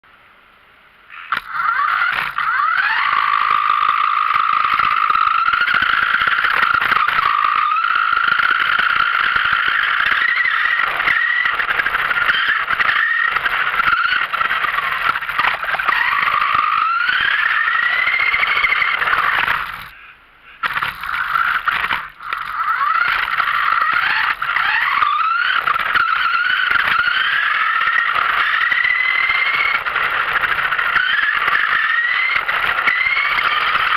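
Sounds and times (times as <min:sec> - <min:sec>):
toy car motor whine: 0:01.1 - 0:33.9
tyre and ground noise: 0:01.1 - 0:33.9.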